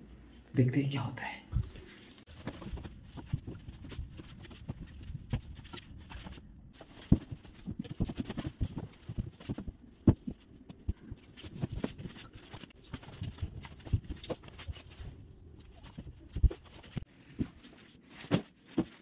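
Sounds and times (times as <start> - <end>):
bedding rustling: 2.1 - 19.0.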